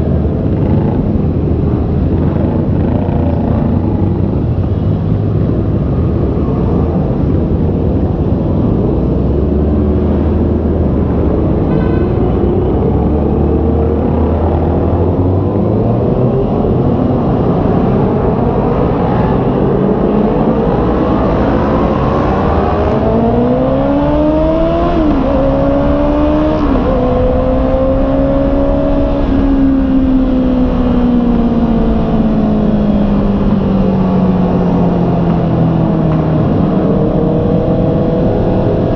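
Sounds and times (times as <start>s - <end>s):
heavy wind rush: 0.0s - 38.9s.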